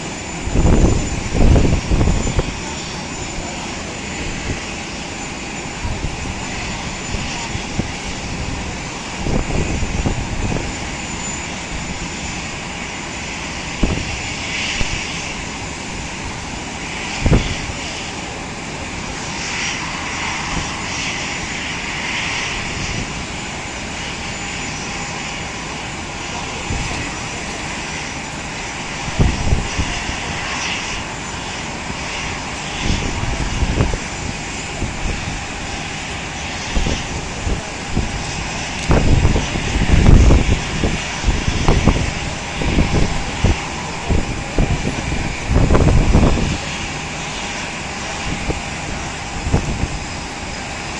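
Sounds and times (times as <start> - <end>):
hissing whine: 0.0 - 50.9
jet aircraft drone: 0.0 - 50.9.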